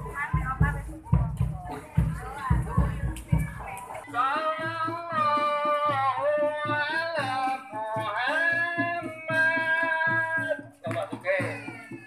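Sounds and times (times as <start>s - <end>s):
steady beat: 0.0s - 12.0s.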